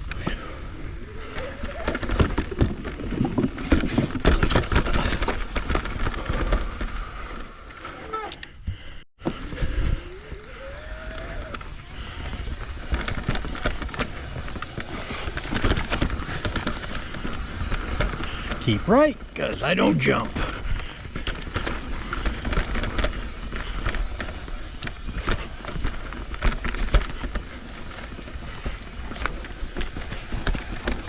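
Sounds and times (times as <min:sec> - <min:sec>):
bike knocking and rattling: 0:00.0 - 0:19.4, 0:20.4 - 0:31.0
tyres rolling over dirt and rock: 0:00.2 - 0:08.1, 0:10.6 - 0:31.0.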